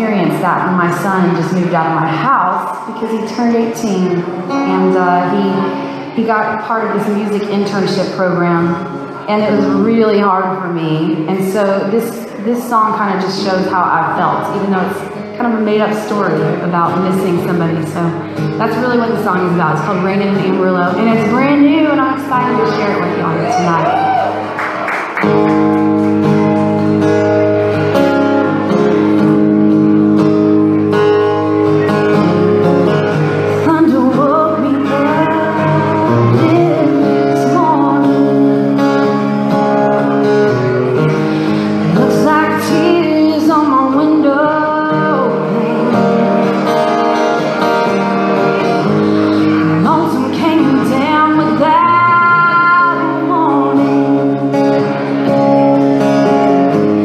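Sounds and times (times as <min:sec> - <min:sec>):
guitars holding sustained chords: 0:00.0 - 0:57.0.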